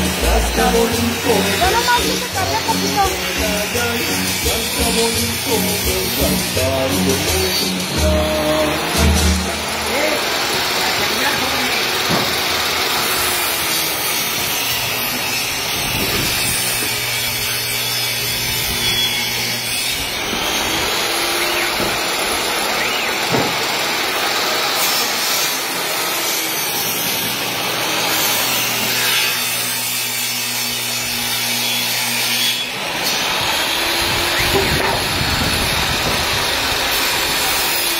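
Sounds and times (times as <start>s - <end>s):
table saw cutting wood: 0.0s - 37.9s.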